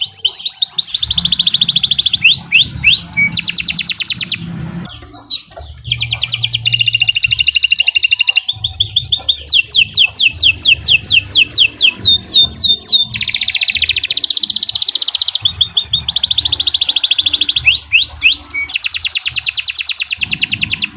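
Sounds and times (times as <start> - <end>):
canary singing trills: 0.0 - 20.9.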